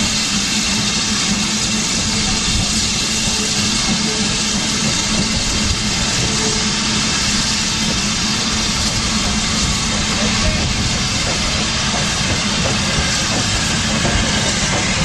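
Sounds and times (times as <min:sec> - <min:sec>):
steam locomotive hissing and rumbling: 0:00.0 - 0:15.0.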